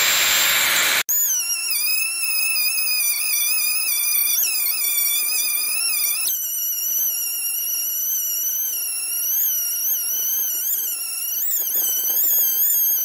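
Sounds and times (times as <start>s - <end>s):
rotary tool grinding metal: 0.7s - 13.0s.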